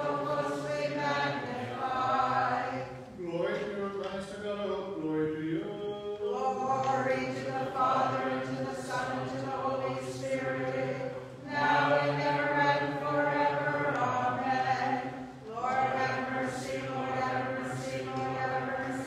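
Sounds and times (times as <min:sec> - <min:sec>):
voices singing unaccompanied chant: 0:00.0 - 0:19.0.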